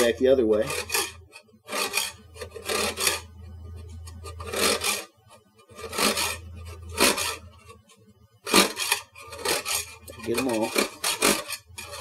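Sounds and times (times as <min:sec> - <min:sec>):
knife scraping metal grater: 0:00.0 - 0:07.8, 0:08.4 - 0:12.0.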